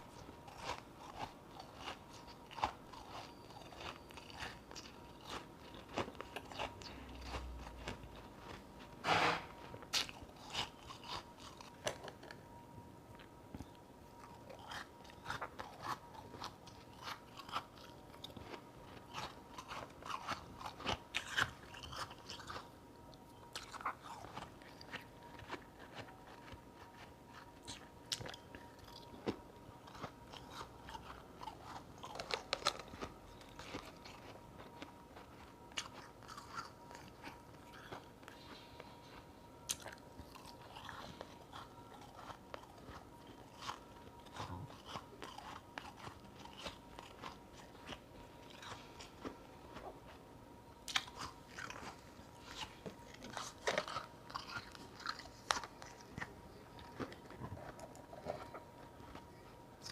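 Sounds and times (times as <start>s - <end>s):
crunching and chewing ice: 0.0s - 50.2s, 50.8s - 59.9s.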